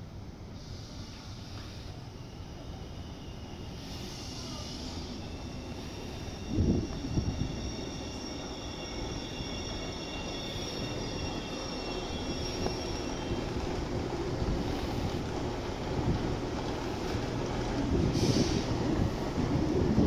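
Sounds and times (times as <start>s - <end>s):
train wheels rumbling on rails: 0.0s - 20.0s
high steady squeal: 0.5s - 20.0s.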